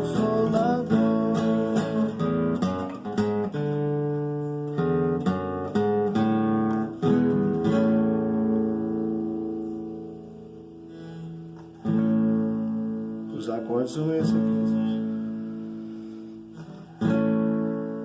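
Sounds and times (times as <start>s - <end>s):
viola caipira strumming: 0.0s - 18.0s.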